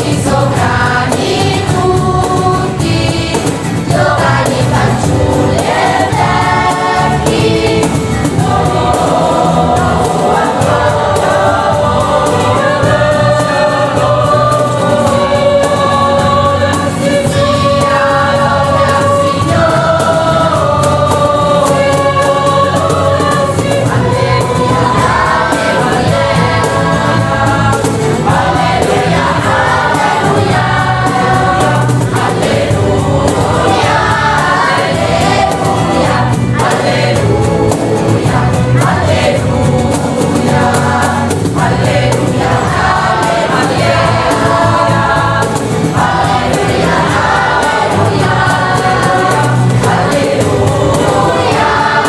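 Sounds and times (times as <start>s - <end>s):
choir singing: 0.0s - 52.0s
strummed acoustic guitars: 0.0s - 52.0s
violin: 0.0s - 52.0s.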